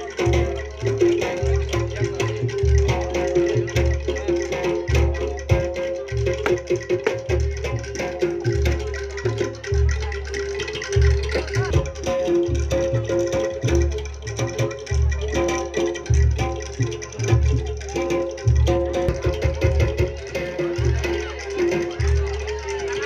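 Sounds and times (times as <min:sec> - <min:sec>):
deep low drum beats: 0:00.0 - 0:23.0
gamelan music: 0:00.0 - 0:23.0
sharp percussion strokes: 0:00.0 - 0:23.0.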